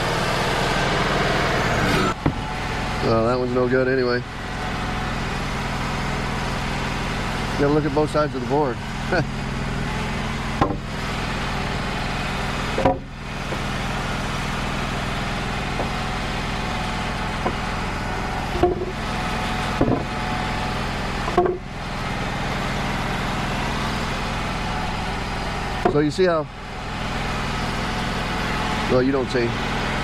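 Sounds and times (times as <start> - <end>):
sawmill engine running: 0.0 - 30.0.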